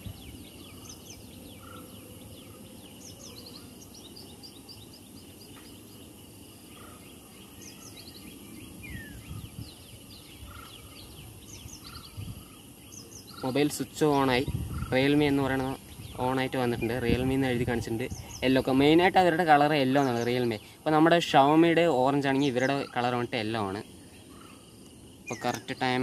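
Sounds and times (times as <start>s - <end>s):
small birds chirping: 0.0s - 26.0s
steady background noise: 0.0s - 26.0s.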